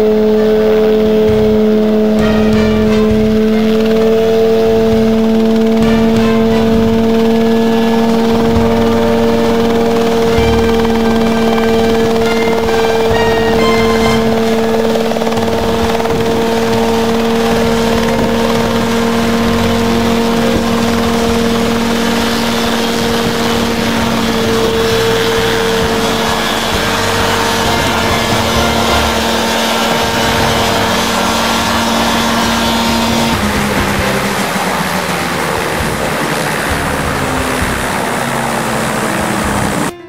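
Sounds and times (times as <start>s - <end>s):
helicopter engine and rotor drone: 0.0s - 40.0s.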